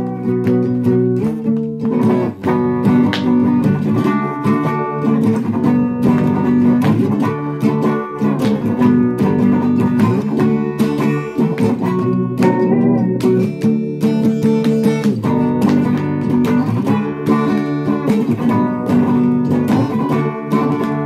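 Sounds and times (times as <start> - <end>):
guitar strummed and picked: 0.0 - 21.0.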